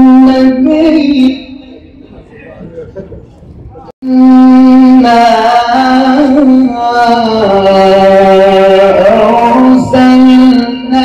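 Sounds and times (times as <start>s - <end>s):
man chanting into a microphone: 0.0s - 2.0s, 4.0s - 11.0s.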